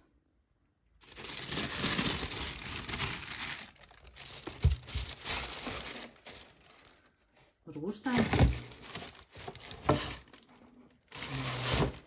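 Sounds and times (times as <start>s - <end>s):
tissue paper crinkling: 1.0s - 12.0s.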